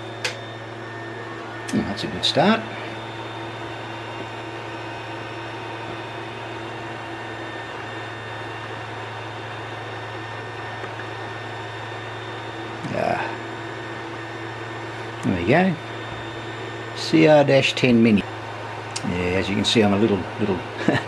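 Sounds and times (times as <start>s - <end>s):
cooling fans humming: 0.0s - 21.0s
thin steady whines: 0.0s - 21.0s.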